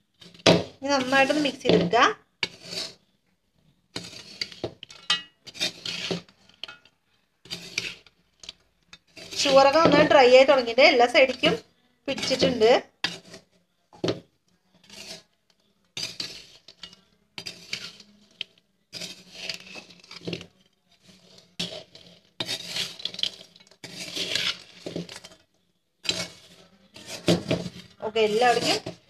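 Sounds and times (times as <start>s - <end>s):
metal spoon scraping metal pan: 0.1s - 3.1s, 3.9s - 29.0s.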